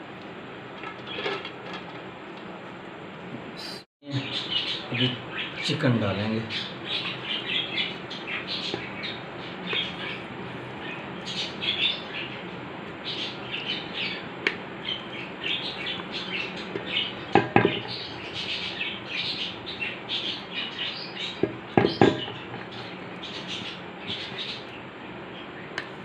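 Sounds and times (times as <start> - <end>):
birds chirping: 0.9 - 1.4, 3.6 - 26.0.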